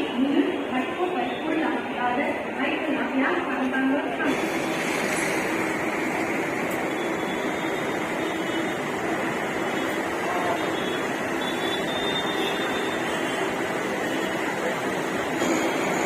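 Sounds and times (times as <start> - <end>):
train rumbling rush: 0.0 - 16.0.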